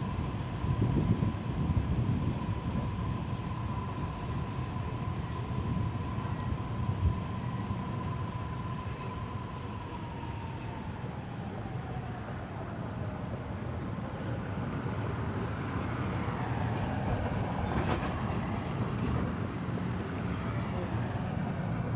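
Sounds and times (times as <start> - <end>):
train rumbling on track: 0.0 - 21.9.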